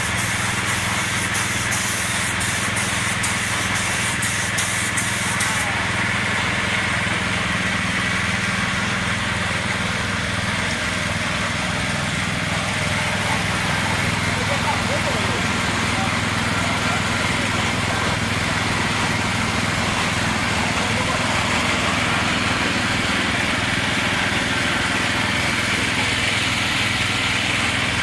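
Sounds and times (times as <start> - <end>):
paint spray gun hissing: 0.0 - 28.0
low motor hum: 4.7 - 28.0.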